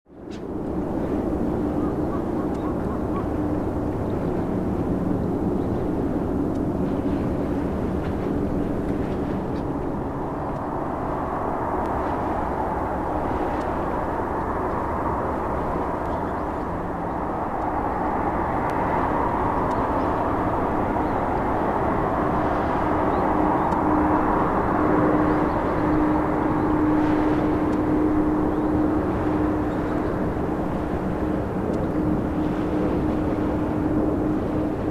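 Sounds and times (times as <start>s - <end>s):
jet engines droning: 0.1s - 34.9s.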